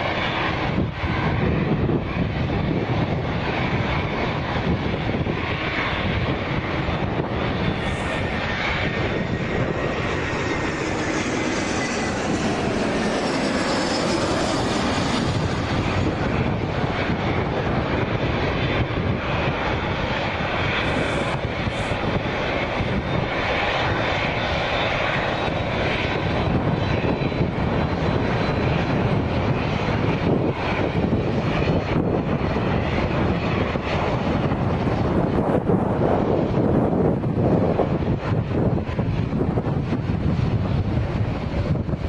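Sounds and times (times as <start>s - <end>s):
faint engine whine: 0.0s - 42.0s
jet engines rushing: 0.0s - 42.0s.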